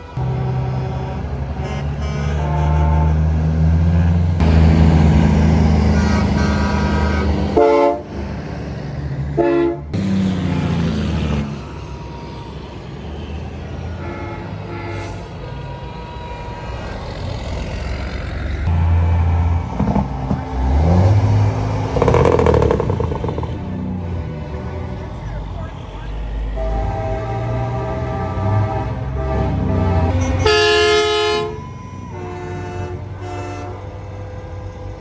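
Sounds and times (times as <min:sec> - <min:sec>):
truck horn blasts: 0:00.0 - 0:03.5, 0:05.8 - 0:08.2, 0:09.3 - 0:12.5, 0:13.8 - 0:17.2, 0:18.7 - 0:35.0
diesel trucks rumbling past: 0:00.0 - 0:35.0.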